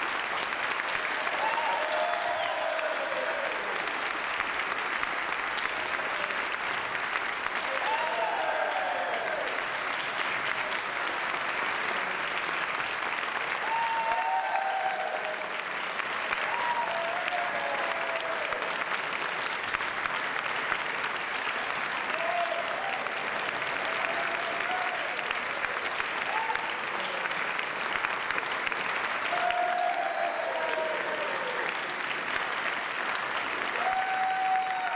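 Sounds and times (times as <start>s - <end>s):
crowd applauding: 0.0s - 34.9s.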